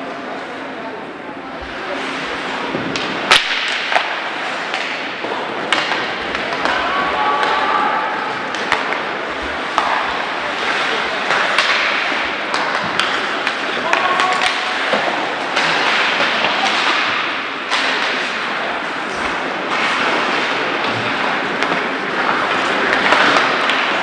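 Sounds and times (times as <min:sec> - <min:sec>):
puck striking boards: 0:02.7 - 0:24.0
hockey stick hitting puck: 0:02.8 - 0:24.0.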